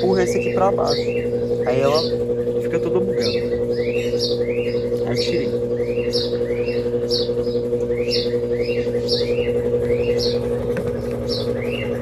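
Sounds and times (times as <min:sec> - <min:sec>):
small bird chirping: 0:00.0 - 0:12.0
washing machine motor hum: 0:00.0 - 0:12.0.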